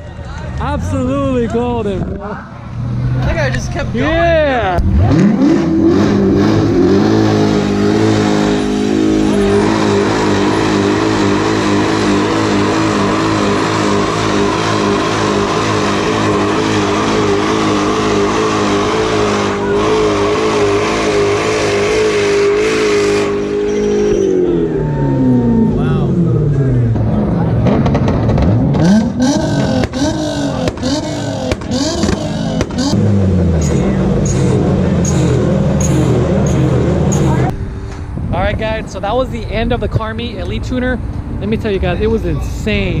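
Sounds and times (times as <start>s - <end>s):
car engine running: 0.6s - 43.0s.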